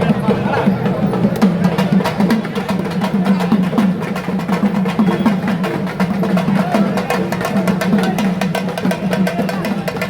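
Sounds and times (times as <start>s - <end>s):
fast continuous drumming: 0.0s - 10.0s.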